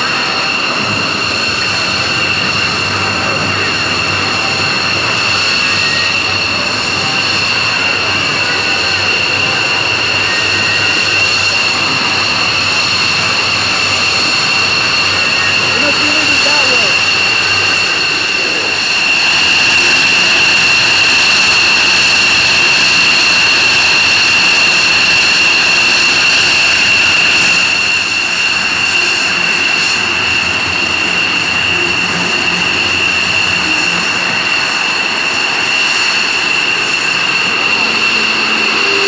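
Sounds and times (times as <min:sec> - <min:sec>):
jet engine turbine whine: 0:00.0 - 0:39.0.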